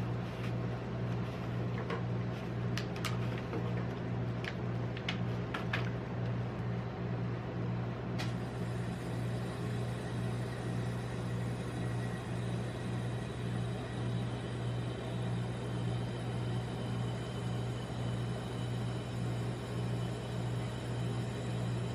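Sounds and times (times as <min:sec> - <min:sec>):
low machine hum: 0:00.0 - 0:21.9.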